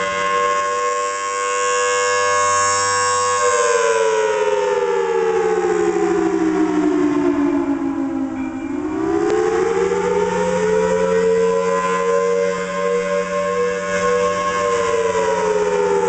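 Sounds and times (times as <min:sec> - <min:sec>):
wailing warning siren: 0:00.0 - 0:16.0.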